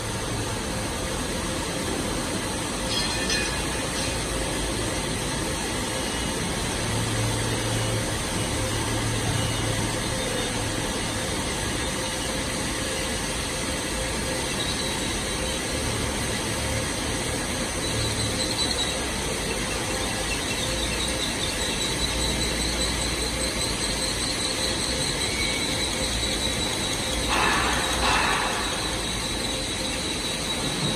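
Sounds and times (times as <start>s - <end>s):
milling machine running: 0.0s - 30.9s.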